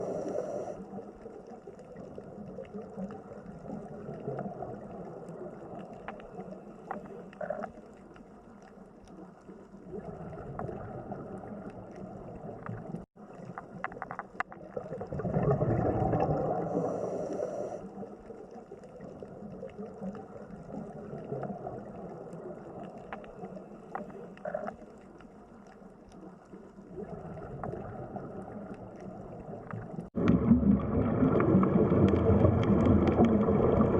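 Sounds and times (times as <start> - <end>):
water gurgling and bubbling: 0.0 - 8.4, 9.3 - 25.0, 26.4 - 33.9
faint clicks: 0.2 - 10.8, 11.6 - 14.8, 16.8 - 30.4.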